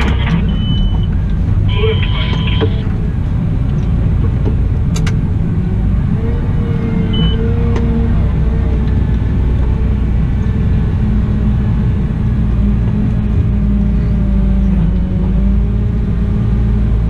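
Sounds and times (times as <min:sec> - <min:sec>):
wheel loader diesel engine running: 0:00.0 - 0:17.0.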